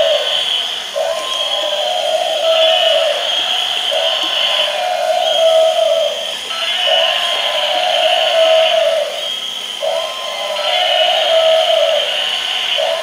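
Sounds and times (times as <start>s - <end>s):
electronic toy sound effects: 0.0s - 13.0s
steady hum: 0.0s - 13.0s.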